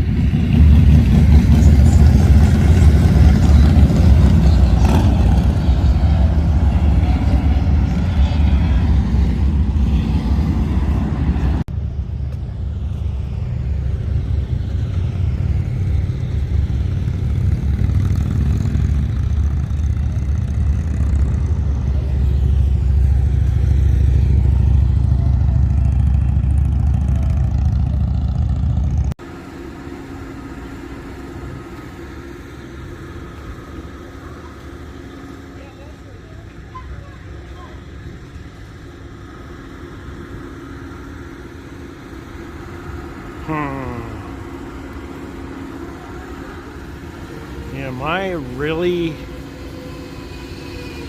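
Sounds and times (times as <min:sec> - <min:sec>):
motorcycle engine drone: 0:00.0 - 0:51.0.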